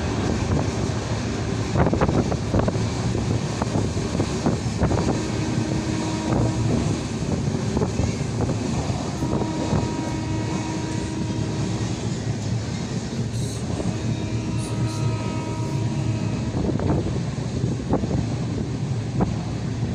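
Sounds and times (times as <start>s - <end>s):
train wheels rumbling on track: 0.0s - 19.9s
wind rush: 0.0s - 19.9s.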